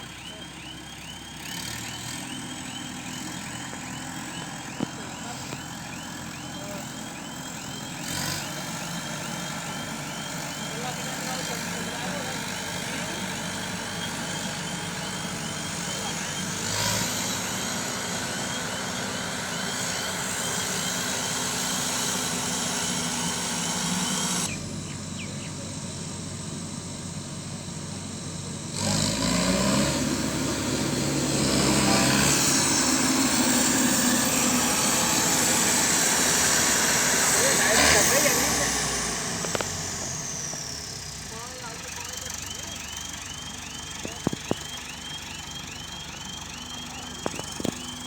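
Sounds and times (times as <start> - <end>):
repeating high chirp: 0.0 - 23.3, 31.6 - 48.0
combine harvester running: 0.0 - 48.0.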